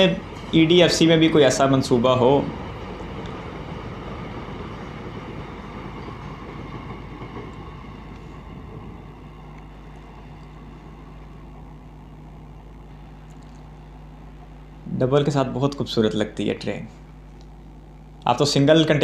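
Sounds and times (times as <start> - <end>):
freight train rail rumble: 0.0 - 17.2
steady low hum: 0.0 - 19.0.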